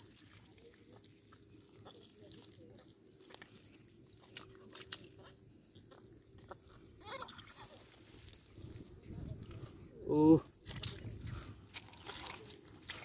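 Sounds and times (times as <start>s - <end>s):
hands squelching in wet mud: 0.0s - 13.0s.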